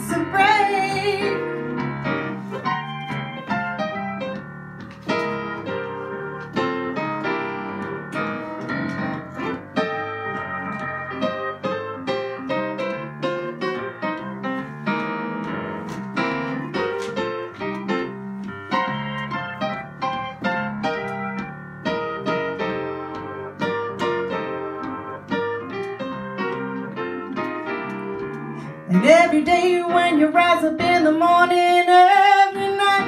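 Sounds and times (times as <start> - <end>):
digital piano playing: 0.0 - 33.0.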